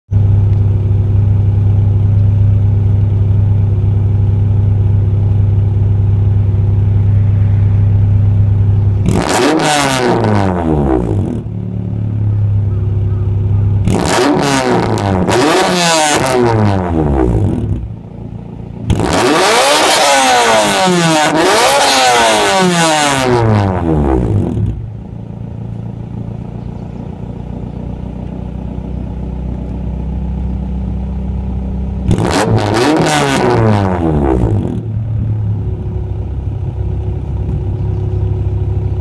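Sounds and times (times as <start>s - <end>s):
car engine idling and revving: 0.1s - 39.0s.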